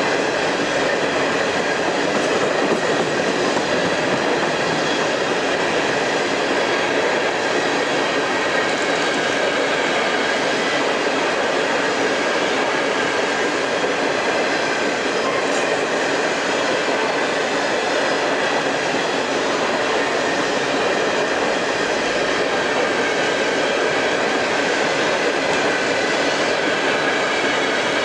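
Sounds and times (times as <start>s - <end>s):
freight train wheels rumbling and rattling: 0.0s - 28.0s.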